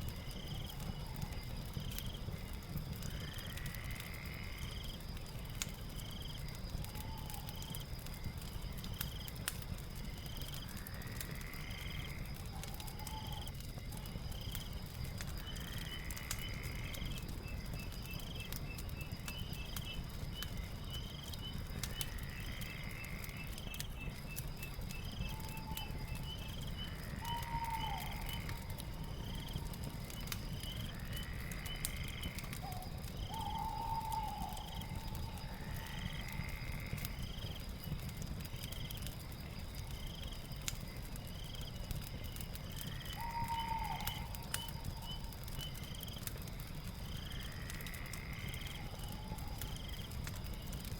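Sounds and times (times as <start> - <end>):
fire crackling and popping: 0.0 - 50.9
insects trilling: 0.0 - 50.9.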